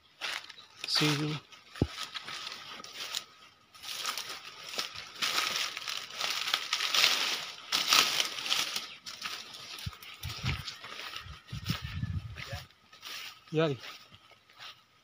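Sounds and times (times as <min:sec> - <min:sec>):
footsteps on grass and dry leaves: 0:00.0 - 0:15.0.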